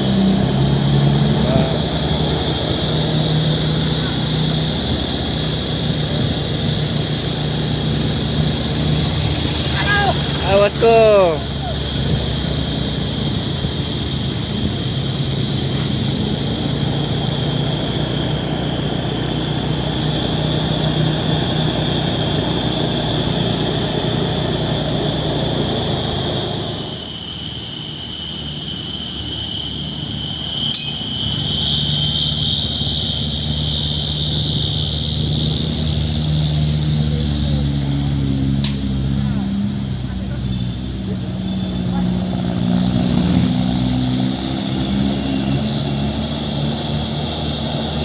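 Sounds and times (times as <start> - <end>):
steady high whine: 0.0 - 48.0
truck engine running: 0.0 - 48.0.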